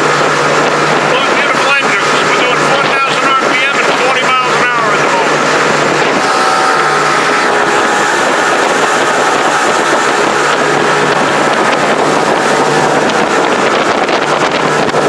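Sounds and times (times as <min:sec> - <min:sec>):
motorboat engine humming: 0:00.0 - 0:15.0
rushing water noise: 0:00.0 - 0:15.0.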